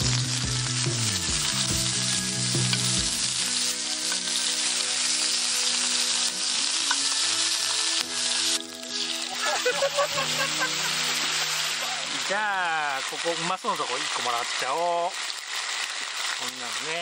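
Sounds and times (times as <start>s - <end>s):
background music: 0.0s - 13.7s
meat sizzling in a frying pan: 0.0s - 17.0s.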